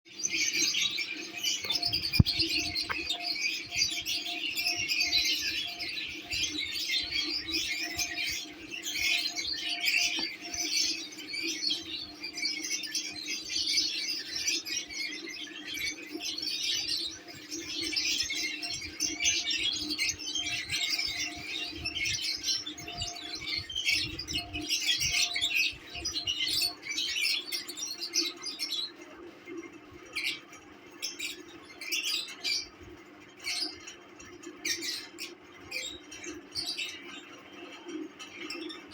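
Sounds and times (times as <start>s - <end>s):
lovebirds chattering and chirping: 0.1s - 38.9s.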